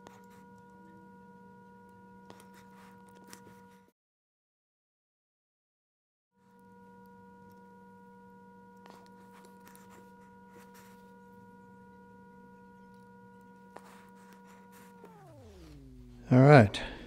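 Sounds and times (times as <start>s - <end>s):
electronic drone of held tones: 0.0s - 3.9s, 6.4s - 17.0s.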